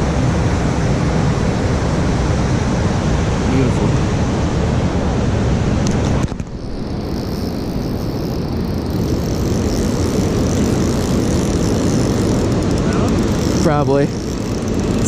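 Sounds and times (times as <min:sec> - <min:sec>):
river current rushing: 0:00.0 - 0:15.0
wind on microphone: 0:00.0 - 0:15.0.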